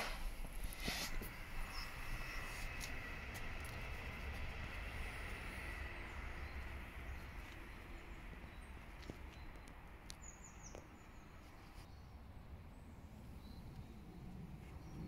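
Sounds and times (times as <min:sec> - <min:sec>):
bird chirping: 0:01.2 - 0:15.0.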